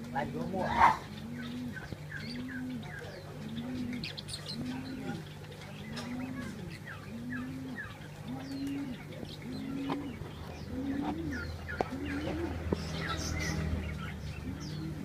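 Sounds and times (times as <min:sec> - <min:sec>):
doves cooing: 0:00.0 - 0:15.0
small birds chirping: 0:00.0 - 0:15.0.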